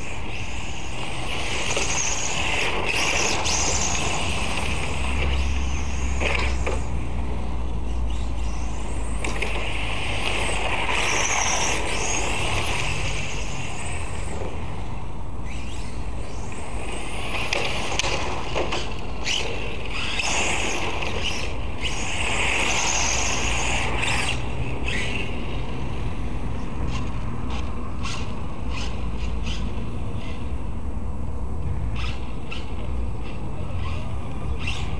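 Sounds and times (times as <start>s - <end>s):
rc car electric motor whining: 0.0s - 26.0s, 26.8s - 30.5s, 32.0s - 34.9s.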